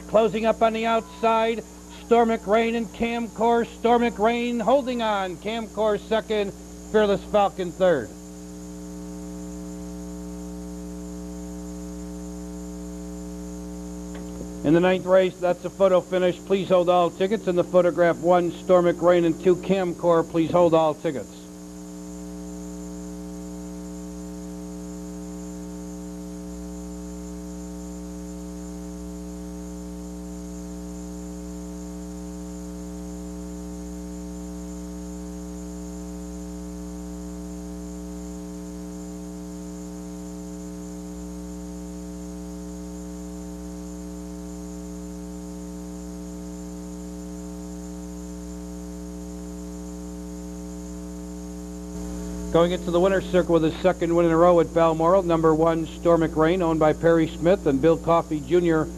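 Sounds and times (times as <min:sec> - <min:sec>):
electrical mains hum: 0:00.0 - 0:58.9.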